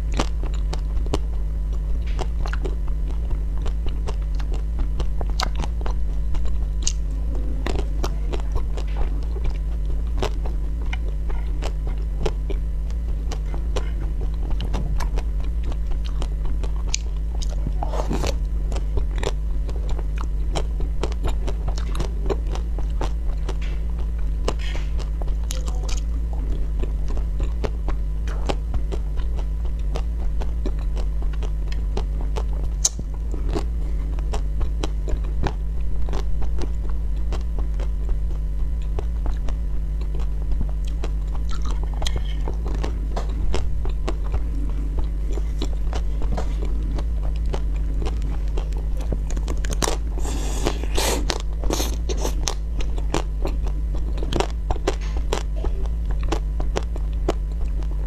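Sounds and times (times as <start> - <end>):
crunching and chewing ice cream: 0.0 - 58.0
steady low hum: 0.0 - 58.0.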